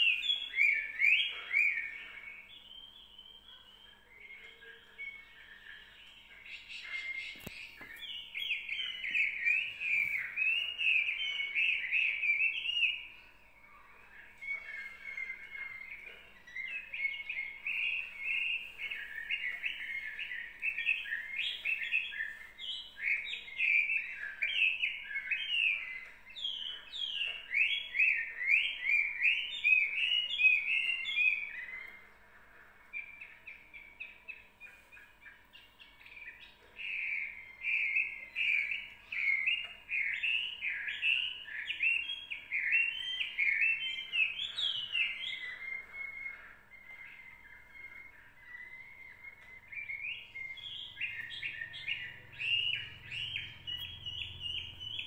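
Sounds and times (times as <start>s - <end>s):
faint steady hum: 0.0s - 55.0s
small songbird twittering: 0.0s - 55.0s.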